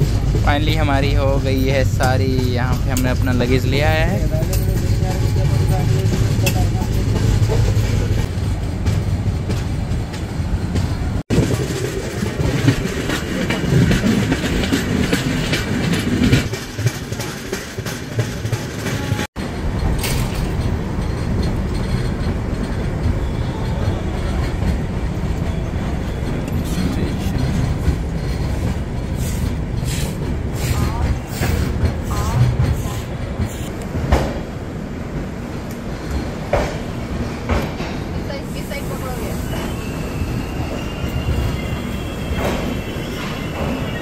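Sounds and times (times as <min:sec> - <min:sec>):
train wheels clattering over rails: 0:00.0 - 0:44.0.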